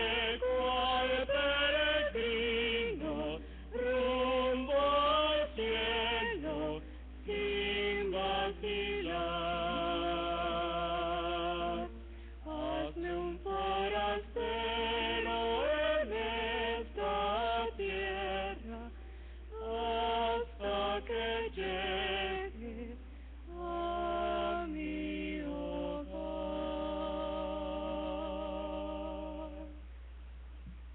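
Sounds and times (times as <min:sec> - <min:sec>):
voices singing a hymn: 0:00.0 - 0:29.9.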